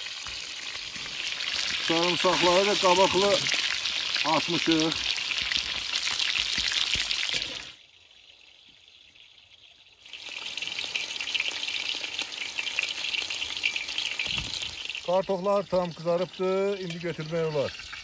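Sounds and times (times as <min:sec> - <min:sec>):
vegetables deep-frying sizzle: 0:00.0 - 0:18.0.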